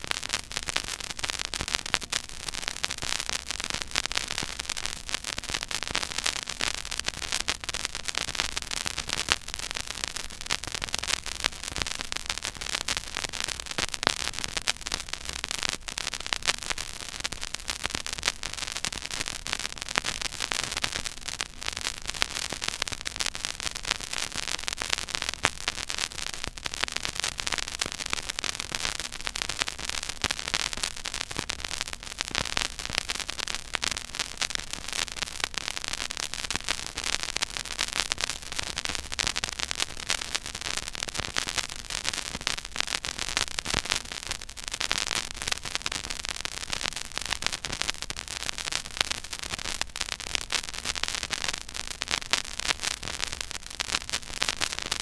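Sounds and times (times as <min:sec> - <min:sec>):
vinyl surface hiss and crackle: 0:00.0 - 0:55.0.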